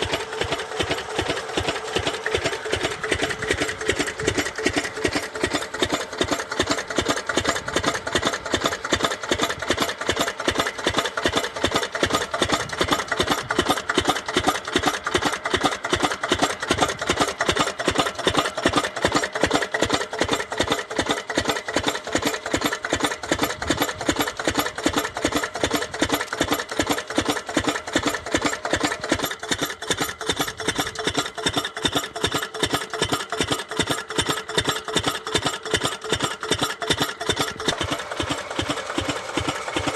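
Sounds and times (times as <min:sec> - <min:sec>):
diesel pump engine running: 0:00.0 - 0:39.9.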